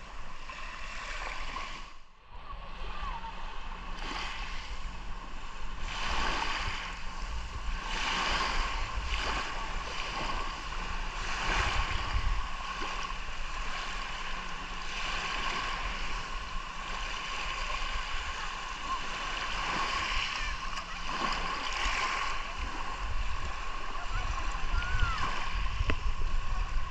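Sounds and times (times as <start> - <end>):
faint steady hum: 0.0 - 26.9
waves washing in: 0.0 - 26.9.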